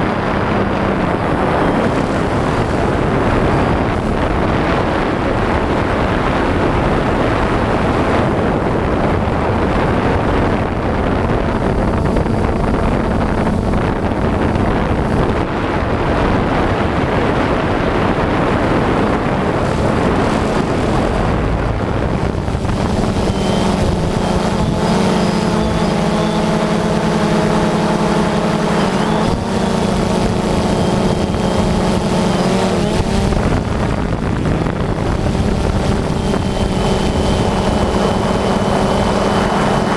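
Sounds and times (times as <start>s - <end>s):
pitched buzzing hum: 0.0s - 39.9s
quadcopter motors and propellers: 0.0s - 39.9s
wind rush on microphone: 0.0s - 39.9s.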